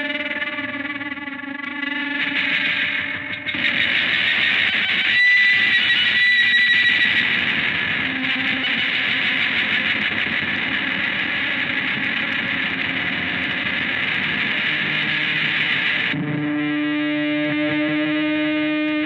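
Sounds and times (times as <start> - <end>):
distorted electric guitars droning: 0.0 - 19.0
high steady whine: 0.0 - 19.0.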